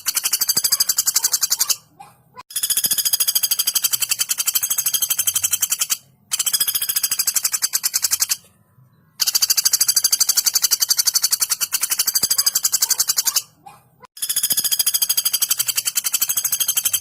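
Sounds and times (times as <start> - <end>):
woodpecker rattling call: 0.0 - 8.4, 9.2 - 17.0.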